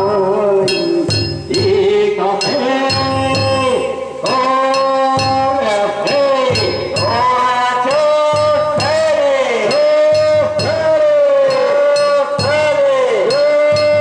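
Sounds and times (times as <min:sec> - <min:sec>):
clanging metal hand gongs: 0:00.0 - 0:14.0
man singing high wavering notes: 0:00.0 - 0:14.0
steady drum beat: 0:00.0 - 0:14.0.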